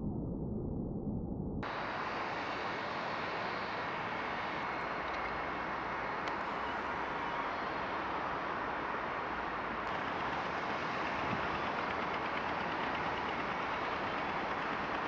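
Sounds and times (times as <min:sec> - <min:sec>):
jet engines running: 0:01.6 - 0:15.0.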